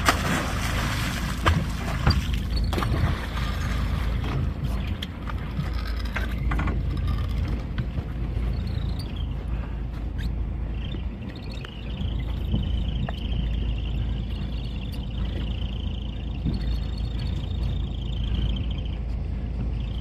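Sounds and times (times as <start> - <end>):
boat rumble: 0.0 - 20.0
wind: 0.0 - 20.0.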